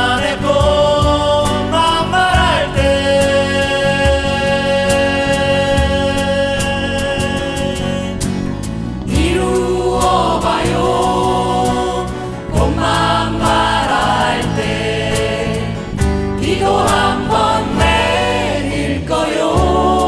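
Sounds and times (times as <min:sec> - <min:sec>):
women singing together: 0:00.0 - 0:06.3, 0:09.1 - 0:20.0
electric bass: 0:00.0 - 0:20.0
strummed acoustic guitars: 0:00.0 - 0:20.0.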